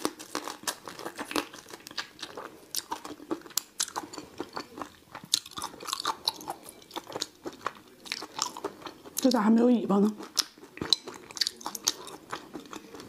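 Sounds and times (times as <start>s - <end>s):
person chewing crunchy prawn: 0.0s - 9.3s, 10.1s - 13.0s.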